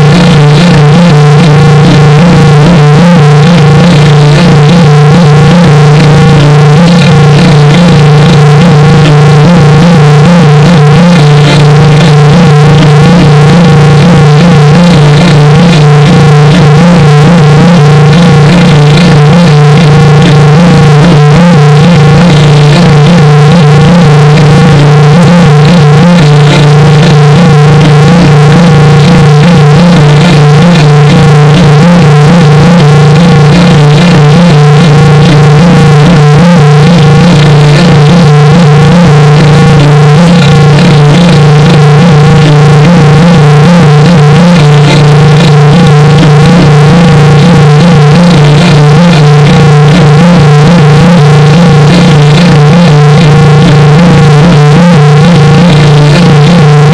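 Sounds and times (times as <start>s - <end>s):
clipped buzzy synthesizer tone: 0.0s - 56.9s.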